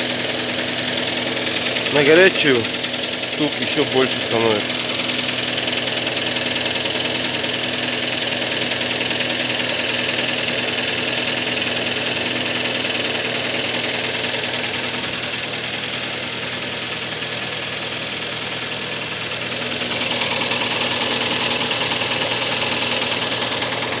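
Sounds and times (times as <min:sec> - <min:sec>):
car engine idling: 0:00.0 - 0:24.0
rapid engine knock: 0:00.0 - 0:24.0.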